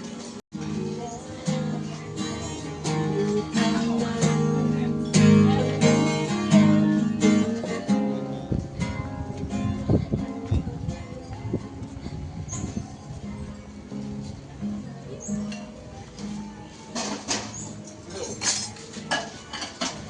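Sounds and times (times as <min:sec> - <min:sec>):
plucked string instrument music: 0:00.0 - 0:20.0.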